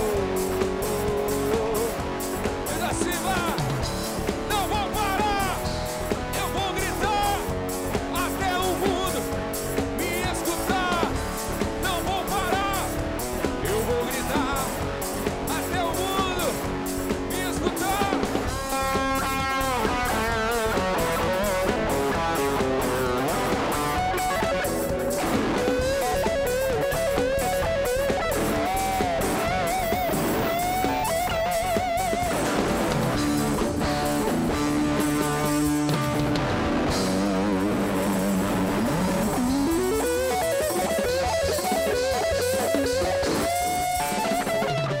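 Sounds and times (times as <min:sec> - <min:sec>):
bass: 0:00.0 - 0:45.0
electric guitar lead: 0:00.0 - 0:45.0
gospel rock band playing: 0:00.0 - 0:45.0
steady drum beat: 0:00.0 - 0:45.0.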